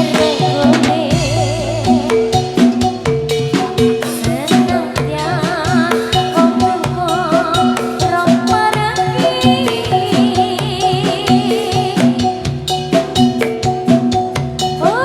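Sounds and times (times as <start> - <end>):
woman singing with vibrato: 0.0 - 13.3, 14.7 - 15.0
drum strokes: 0.0 - 15.0
metallophone tones: 0.0 - 15.0.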